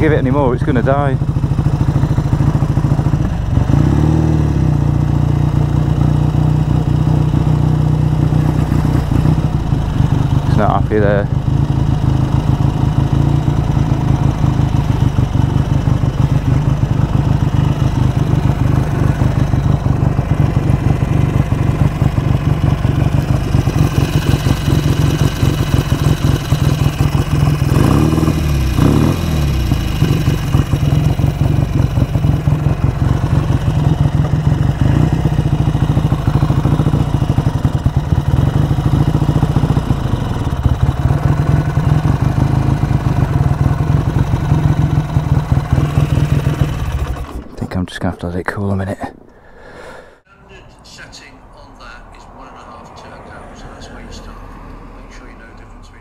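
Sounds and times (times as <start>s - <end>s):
motorcycle engine idling unevenly: 0.0s - 47.5s.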